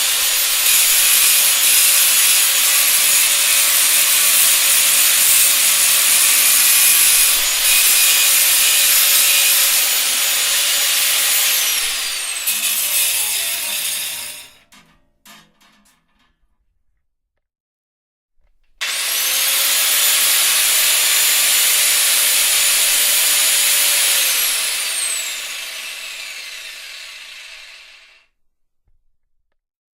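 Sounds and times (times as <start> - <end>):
circular saw cutting wood: 0.0 - 14.6, 18.8 - 28.3.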